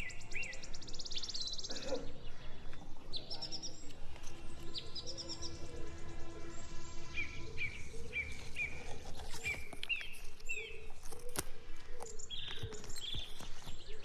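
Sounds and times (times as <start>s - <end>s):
low bird call: 0.0s - 14.0s.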